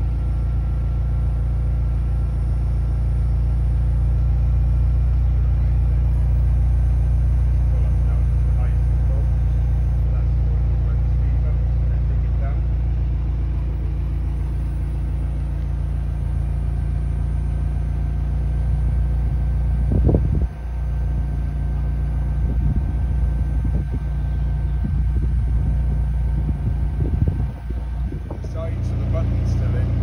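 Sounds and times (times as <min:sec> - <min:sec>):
sports car engine idling: 0:00.0 - 0:30.0.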